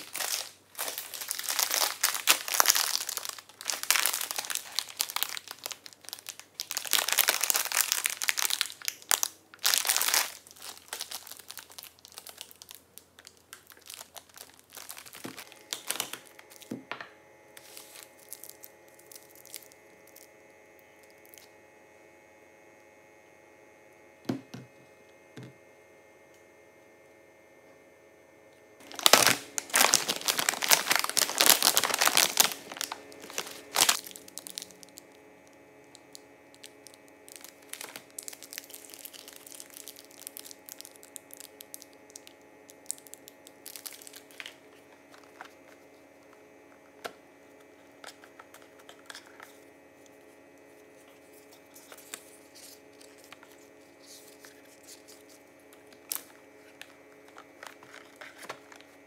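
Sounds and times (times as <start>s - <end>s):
plastic snack bag crinkling: 0.0s - 17.0s, 17.6s - 20.4s, 28.8s - 59.0s.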